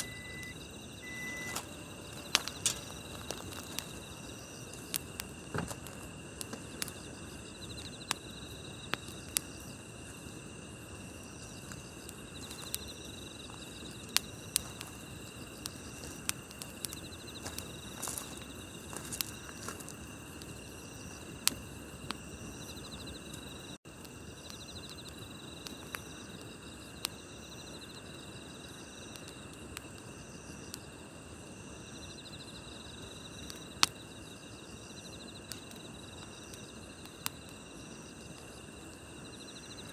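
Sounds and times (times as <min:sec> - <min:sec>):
campfire crackling: 0:00.0 - 0:39.9
night insects trilling: 0:00.0 - 0:39.9.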